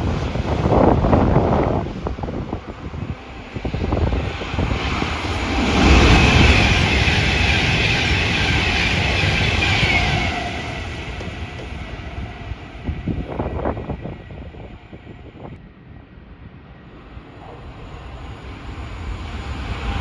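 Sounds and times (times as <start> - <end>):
train passing rumble: 0.0 - 20.0.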